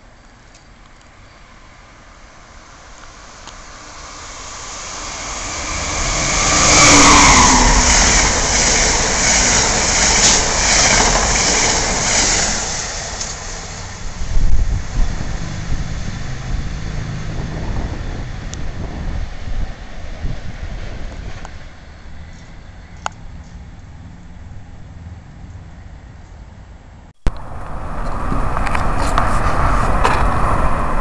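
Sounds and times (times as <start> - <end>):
train passing at speed: 1.0 - 31.0.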